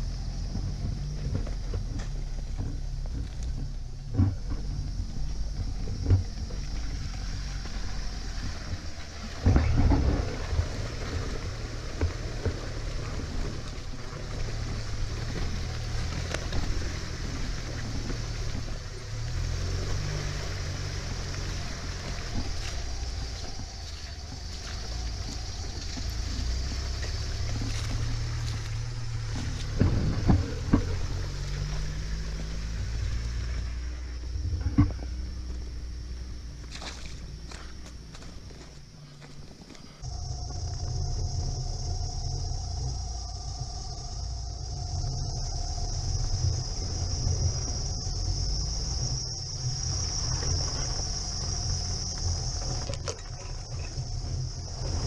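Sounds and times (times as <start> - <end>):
car engine running at low revs: 0.0 - 55.0
car jolting over ruts: 0.0 - 55.0.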